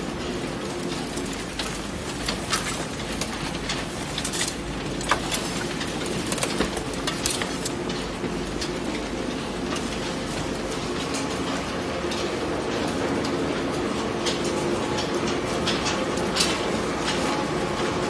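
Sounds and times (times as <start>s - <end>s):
conveyor clattering clicks: 0.0s - 18.0s
machine drone with hum: 0.0s - 18.0s.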